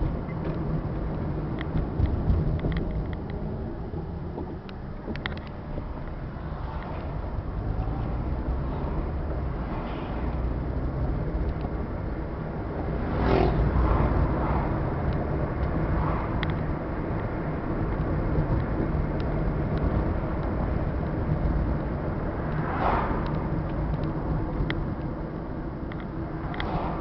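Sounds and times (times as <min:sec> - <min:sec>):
car road noise rumble: 0:00.0 - 0:27.0.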